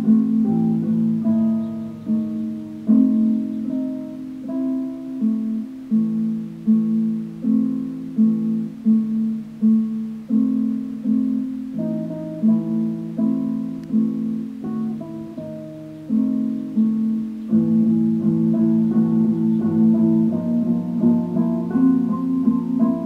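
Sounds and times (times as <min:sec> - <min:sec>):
plucked guitar-like music: 0:00.0 - 0:23.0.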